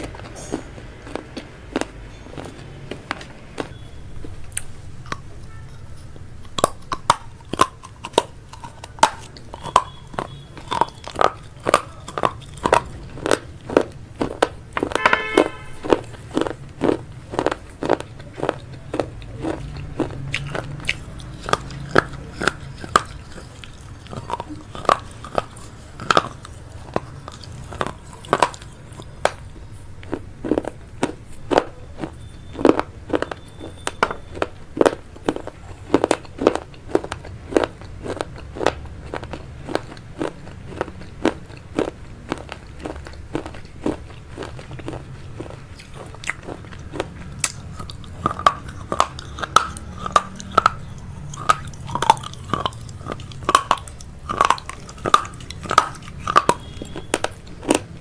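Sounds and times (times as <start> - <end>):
close chewing with mouth clicks: 0.0 - 58.0.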